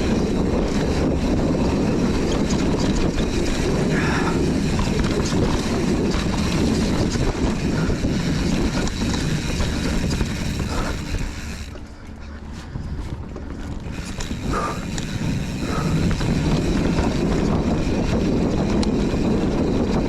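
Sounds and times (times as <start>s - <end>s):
rapid rattling clicks from bike: 0.0s - 20.0s
rumble of wind and tyres: 0.0s - 20.0s.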